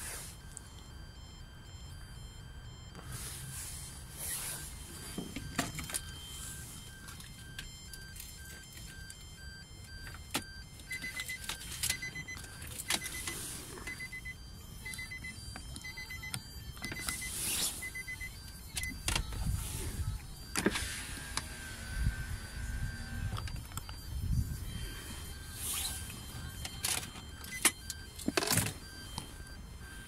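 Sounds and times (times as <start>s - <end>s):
electronic device beeping: 0.0s - 30.0s.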